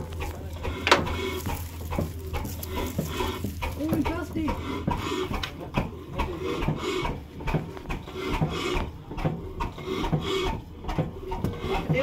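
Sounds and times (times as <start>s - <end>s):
engine cranking rhythmic chuff: 0.0s - 12.0s.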